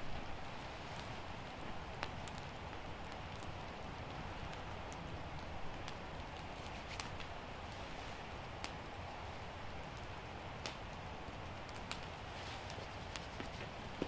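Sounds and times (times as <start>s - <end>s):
campfire pops and crackles: 0.0s - 14.0s
steady low hiss: 0.0s - 14.0s.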